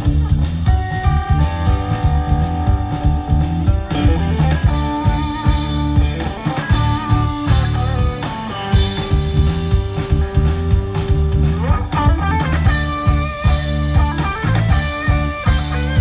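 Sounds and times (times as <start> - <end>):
amplified electric guitars: 0.0 - 16.0
drum kit hits: 0.0 - 16.0.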